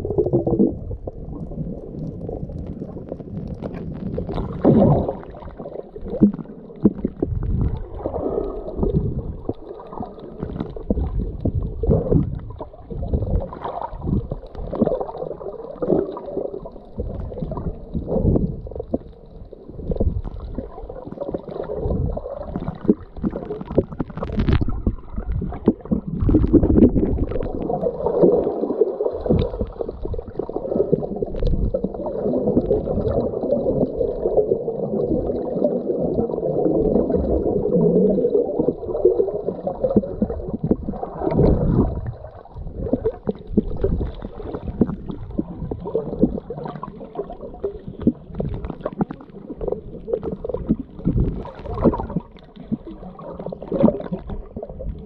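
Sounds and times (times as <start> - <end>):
underwater water rushing and gurgling: 0.0 - 55.0.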